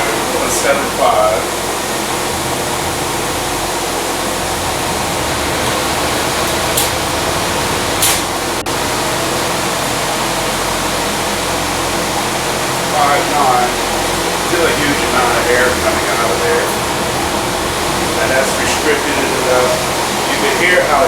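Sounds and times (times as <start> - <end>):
blower air rushing: 0.0 - 10.2, 12.6 - 21.0
motor hum: 0.0 - 21.0.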